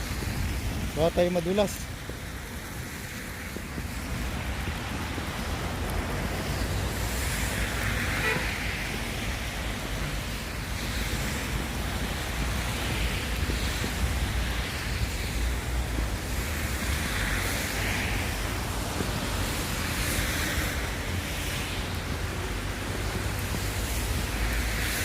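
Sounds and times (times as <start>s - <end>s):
vehicle passing on slushy road: 0.0s - 25.0s
wind rumble on microphone: 0.0s - 25.0s.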